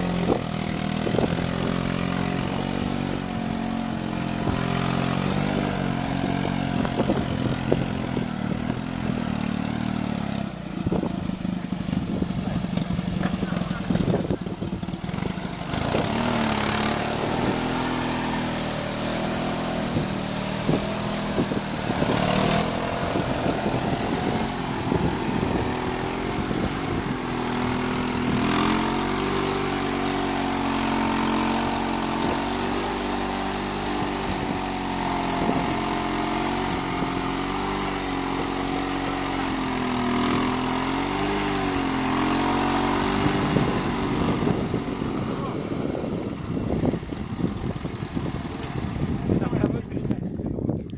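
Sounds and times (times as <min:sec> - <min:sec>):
single-cylinder engine running: 0:00.0 - 0:50.9.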